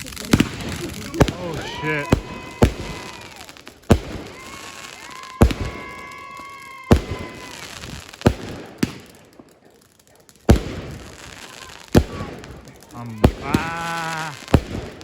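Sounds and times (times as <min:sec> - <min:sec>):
fireworks bangs: 0:00.0 - 0:15.0
fireworks whistles: 0:00.0 - 0:15.0.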